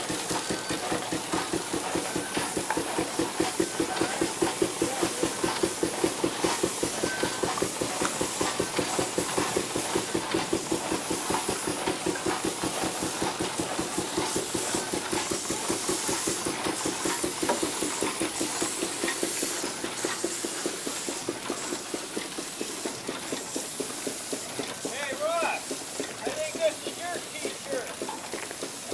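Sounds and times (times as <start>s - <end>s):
steam engine chuffing: 0.0s - 28.9s
steam hissing: 0.0s - 28.9s.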